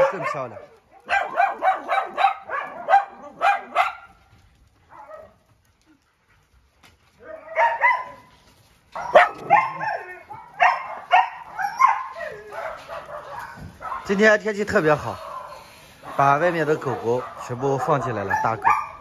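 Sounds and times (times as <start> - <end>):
dogs barking: 0.0 - 4.2, 4.9 - 5.5, 7.2 - 8.3, 8.9 - 19.0.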